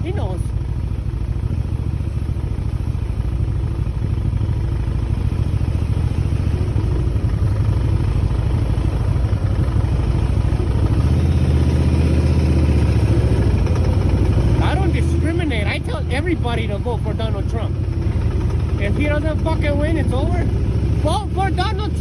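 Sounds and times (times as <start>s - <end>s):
motorcycle engine drone: 0.0s - 22.0s.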